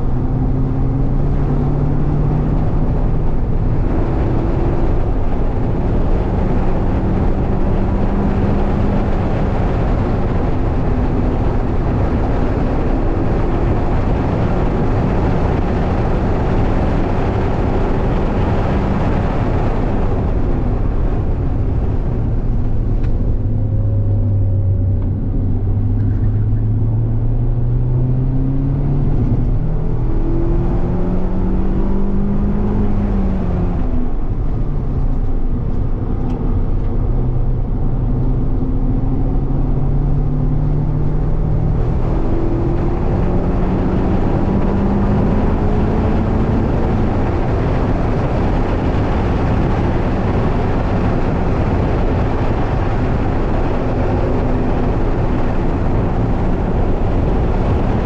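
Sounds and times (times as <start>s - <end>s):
car engine revving: 0.0s - 58.0s
tyre and wind noise: 0.0s - 58.0s.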